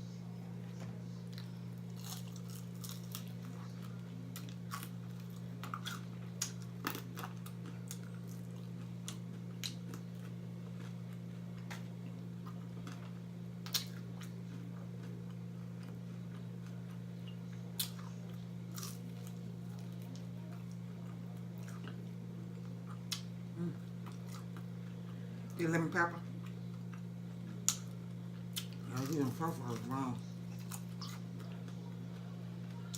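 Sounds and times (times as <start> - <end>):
steady low hum: 0.0 - 32.9
person chewing fried food: 1.3 - 25.4, 26.4 - 32.0.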